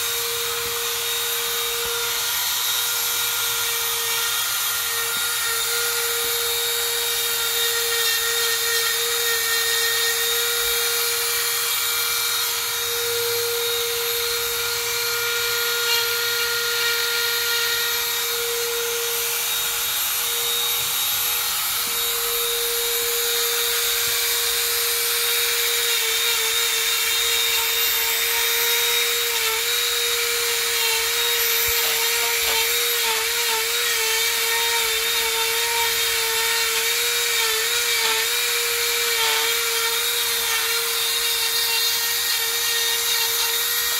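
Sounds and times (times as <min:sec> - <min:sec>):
rotary tool grinding wood: 0:00.0 - 0:43.9.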